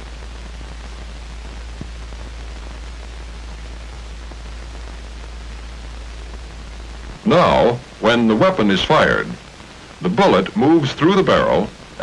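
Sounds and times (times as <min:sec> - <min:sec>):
film soundtrack hiss and hum: 0:00.0 - 0:12.0.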